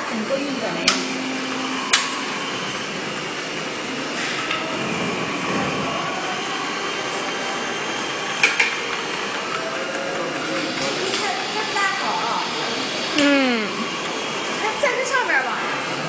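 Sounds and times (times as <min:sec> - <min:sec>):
conveyor running noise: 0:00.0 - 0:16.0.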